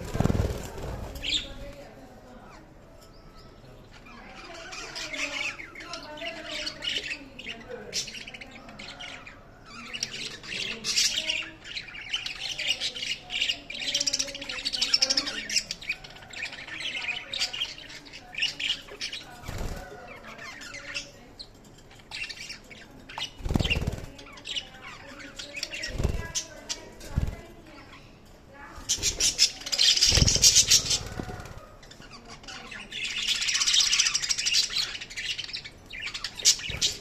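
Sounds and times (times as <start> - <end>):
budgerigars chirping and squawking: 0.0 - 37.0.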